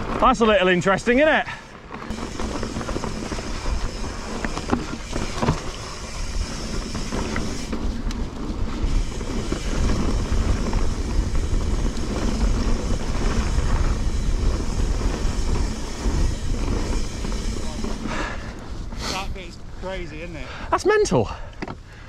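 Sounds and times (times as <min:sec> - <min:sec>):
bike rattling: 0:00.0 - 0:22.0
tyres on dirt trail: 0:00.0 - 0:22.0
wind rumbling on microphone: 0:02.0 - 0:19.8.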